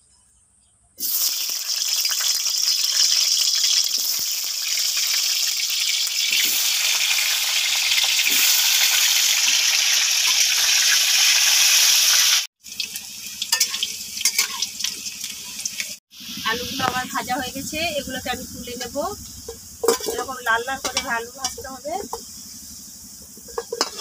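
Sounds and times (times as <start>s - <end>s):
potatoes sizzling in hot oil: 1.0s - 24.0s.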